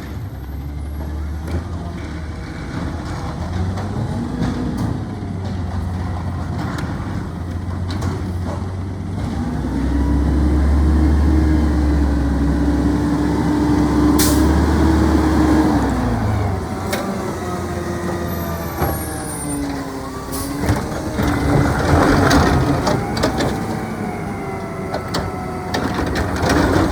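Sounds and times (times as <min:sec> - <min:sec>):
diesel engine revving: 0:00.0 - 0:26.9.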